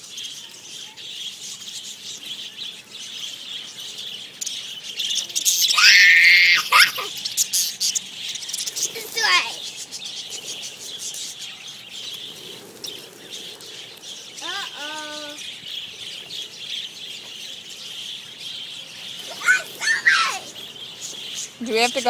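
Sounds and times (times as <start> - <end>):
budgerigars chattering and warbling: 0.0 - 22.0
high bird voices: 0.0 - 22.0.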